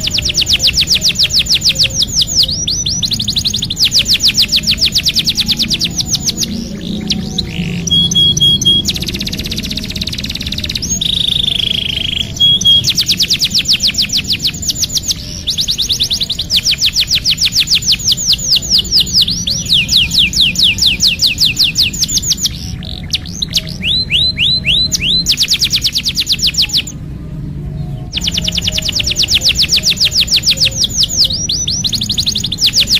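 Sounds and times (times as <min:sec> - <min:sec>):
canary singing trills: 0:00.0 - 0:32.9.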